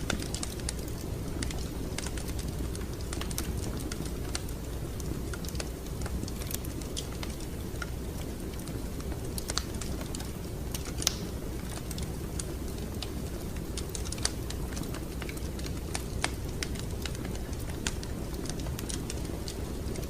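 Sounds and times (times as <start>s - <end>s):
fire popping and snapping: 0.0s - 20.0s
low rumble of fire: 0.0s - 20.0s.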